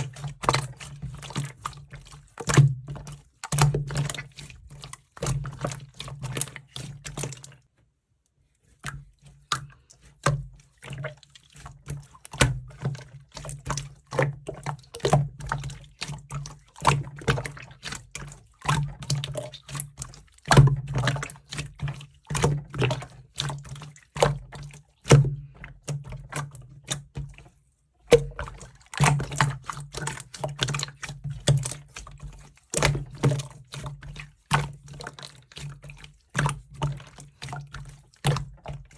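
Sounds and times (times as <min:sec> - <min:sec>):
slime squelching: 0:00.0 - 0:07.7, 0:08.6 - 0:38.9.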